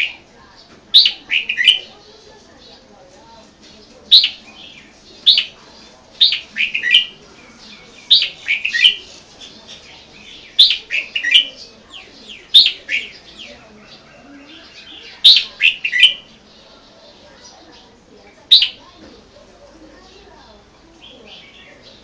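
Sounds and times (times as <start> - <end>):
songbird singing bright phrases: 0.0 - 22.0.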